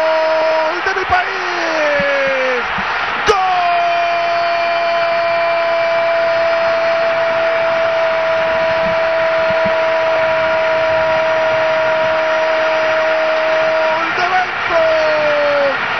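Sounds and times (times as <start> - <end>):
commentator's long held goal cry: 0.0 - 15.9
stadium crowd cheering: 0.0 - 15.9.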